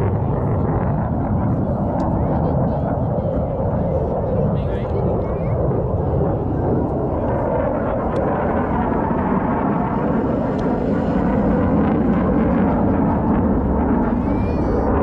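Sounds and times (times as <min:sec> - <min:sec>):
aircraft flying over: 0:00.0 - 0:15.0.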